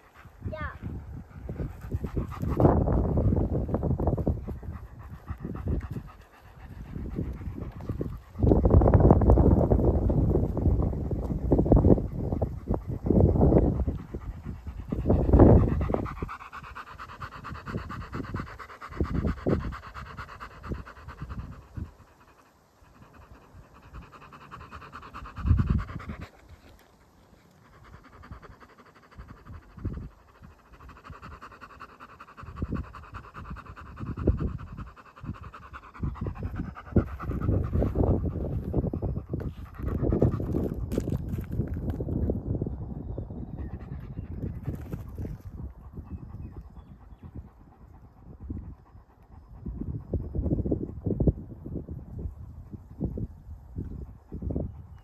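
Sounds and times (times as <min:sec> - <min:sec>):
dog panting rapidly: 0:00.0 - 0:41.7, 0:43.5 - 0:55.0.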